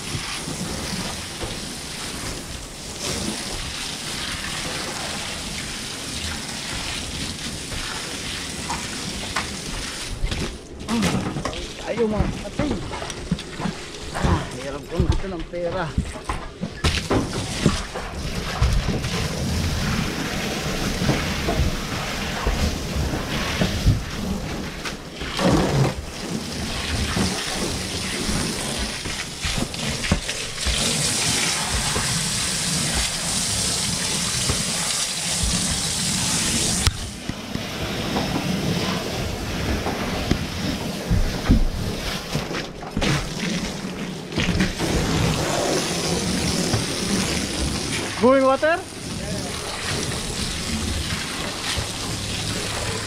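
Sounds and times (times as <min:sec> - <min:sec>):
hose water spraying on metal: 0:00.0 - 0:53.0.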